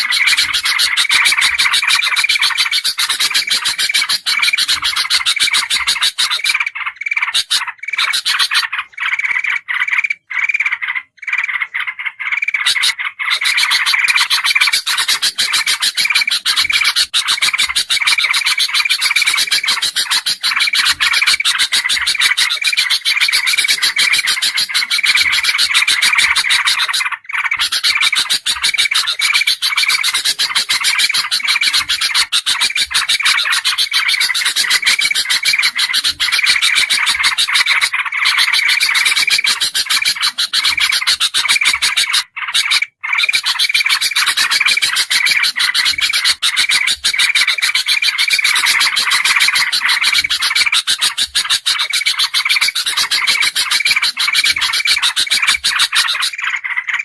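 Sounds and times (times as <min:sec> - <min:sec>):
bulbuls chattering: 0:00.0 - 0:57.0
loud bird chirp: 0:00.0 - 0:57.0.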